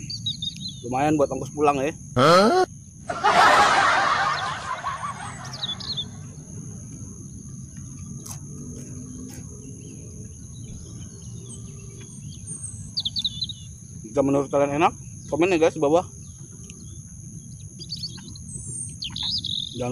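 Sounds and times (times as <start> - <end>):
bird chirps: 0.0 - 1.4, 3.6 - 6.6, 7.2 - 19.9
steady low hum: 0.0 - 19.8.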